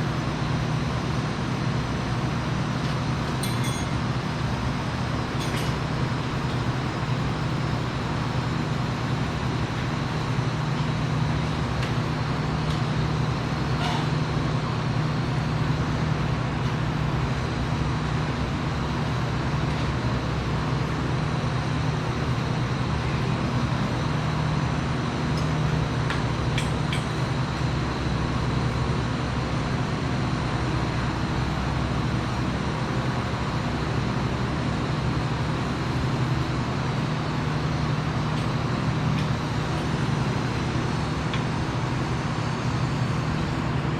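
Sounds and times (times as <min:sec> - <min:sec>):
low machine hum: 0:00.0 - 0:43.9.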